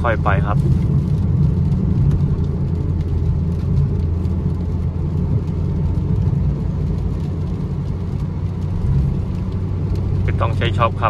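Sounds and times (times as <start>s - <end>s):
car engine and road rumble: 0.0s - 11.0s
rain on car: 0.0s - 11.0s.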